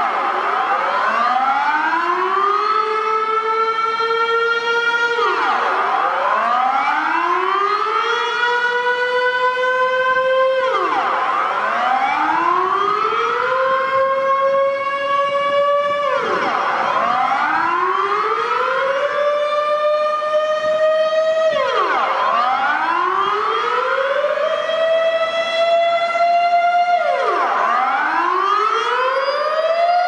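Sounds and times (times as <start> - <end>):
wailing warning siren: 0.0 - 30.0.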